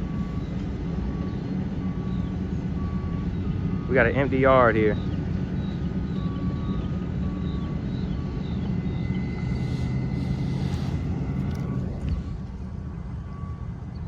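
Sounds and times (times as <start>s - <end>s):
locomotive engine rumble: 0.0s - 14.0s.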